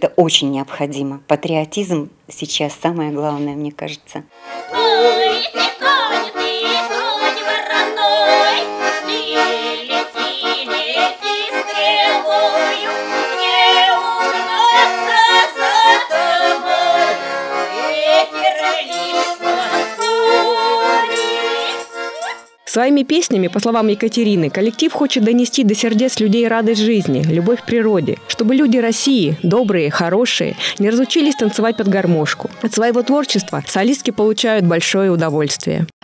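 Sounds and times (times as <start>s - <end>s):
button accordion: 4.3s - 35.1s
women singing with vibrato: 4.5s - 22.6s, 23.2s - 34.4s.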